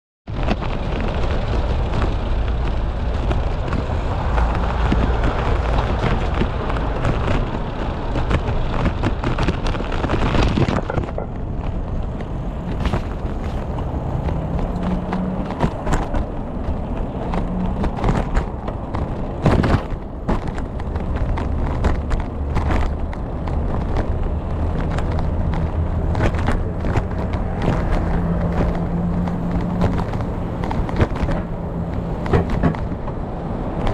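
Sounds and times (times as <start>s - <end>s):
bicycle rumble: 0.3s - 33.9s
bike knocks and rattles: 0.3s - 33.9s
wind buffeting: 0.3s - 33.9s.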